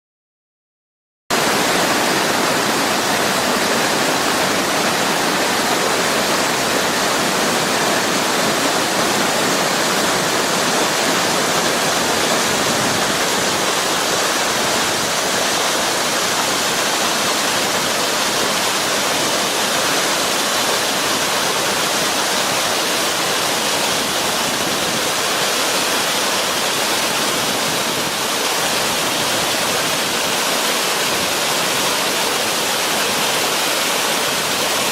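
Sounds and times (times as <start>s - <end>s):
waterfall rushing: 1.3s - 34.9s.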